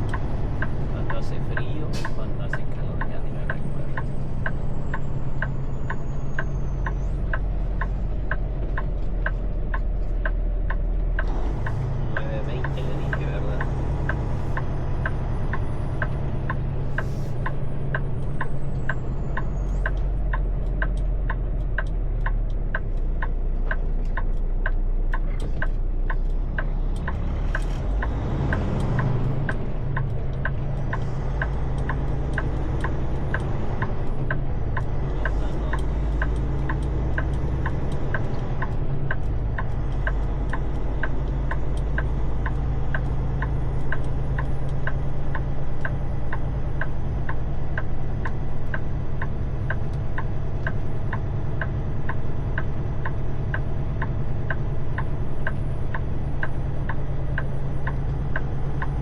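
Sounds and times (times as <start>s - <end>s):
even ticking: 0.0s - 59.0s
truck engine idling: 0.0s - 59.0s.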